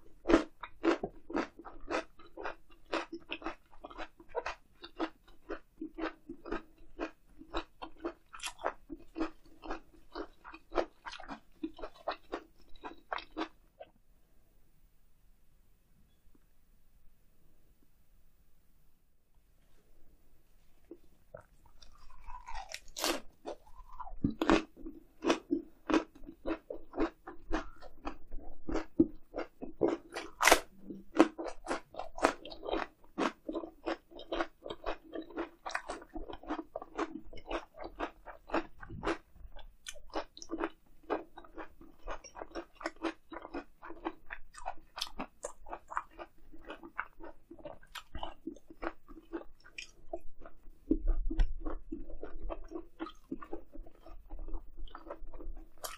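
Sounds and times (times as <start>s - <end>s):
crisp moist crunching chewing: 0.0s - 13.9s, 20.8s - 55.9s.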